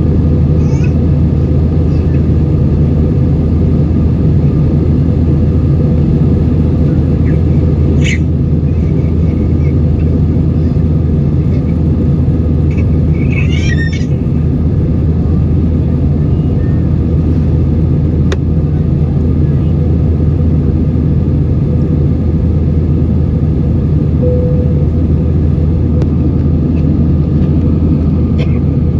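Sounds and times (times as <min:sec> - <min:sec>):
airplane cabin engine rumble: 0:00.0 - 0:28.9.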